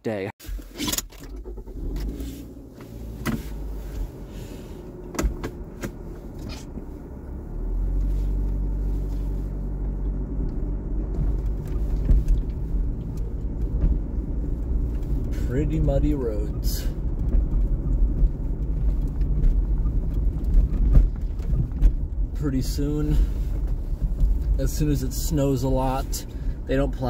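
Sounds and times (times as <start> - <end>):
car pulling away: 0.7 - 27.0
car engine idling: 1.1 - 27.0.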